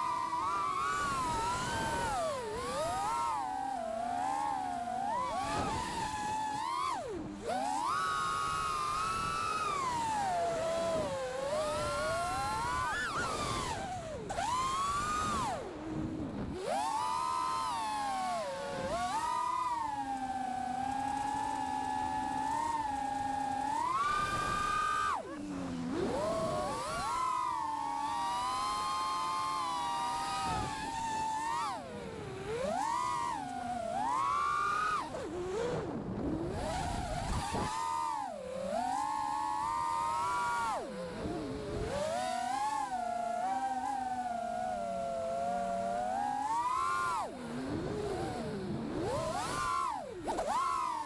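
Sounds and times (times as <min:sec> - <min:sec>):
drone motors whining: 0:00.0 - 0:51.0.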